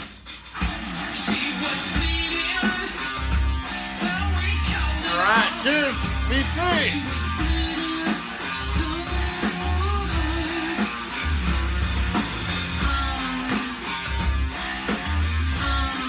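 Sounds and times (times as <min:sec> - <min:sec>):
rock music from a record: 0:00.0 - 0:16.0.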